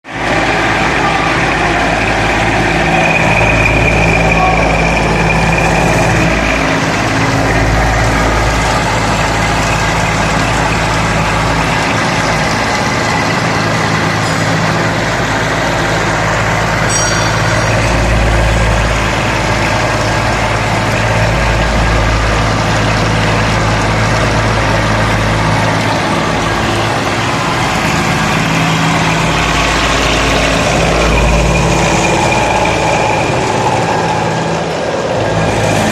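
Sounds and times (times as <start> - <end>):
high machine whine: 0.1 - 35.9
milling machine hum: 0.1 - 35.9.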